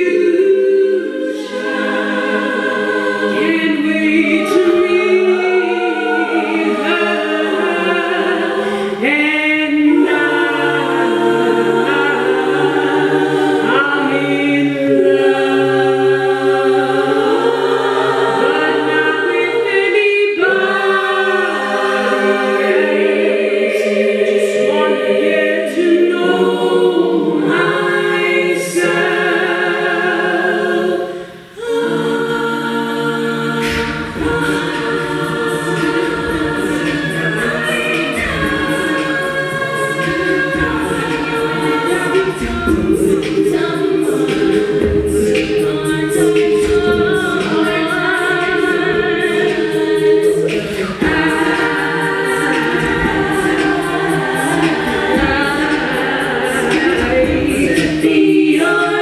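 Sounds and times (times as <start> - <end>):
women singing a cappella: 0.0 - 59.0.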